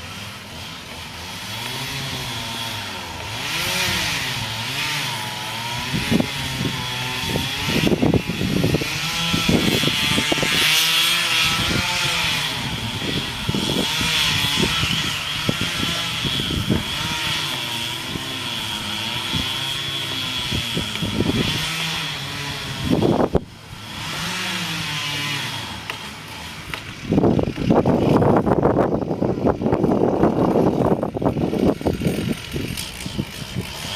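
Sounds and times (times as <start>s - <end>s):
chainsaw cutting: 0.0s - 33.9s.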